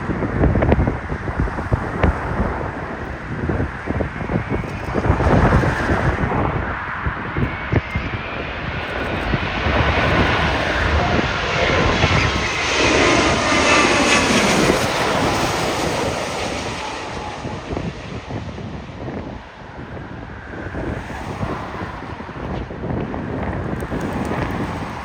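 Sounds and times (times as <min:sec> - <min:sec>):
jet engines whining: 0:00.0 - 0:25.0
wind buffeting microphone: 0:00.0 - 0:25.0.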